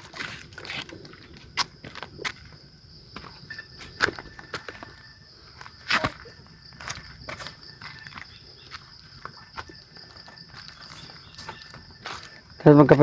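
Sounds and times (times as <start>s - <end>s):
footsteps on rocks and stones: 0.0s - 13.0s
high insect buzz: 0.0s - 13.0s.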